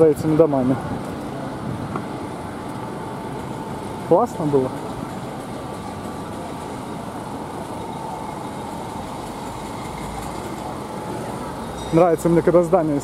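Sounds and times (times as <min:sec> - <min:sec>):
car driving road noise: 0:00.0 - 0:13.0
faint steady whine: 0:00.0 - 0:13.0.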